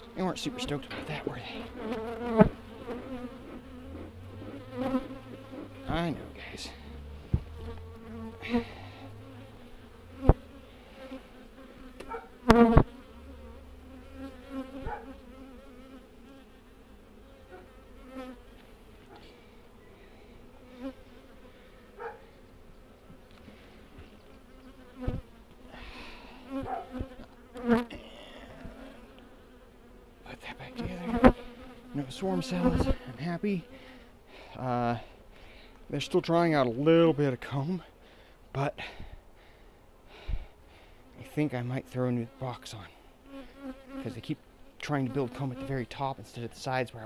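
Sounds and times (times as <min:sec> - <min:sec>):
honeybees buzzing: 0:00.0 - 0:37.8, 0:40.4 - 0:47.0.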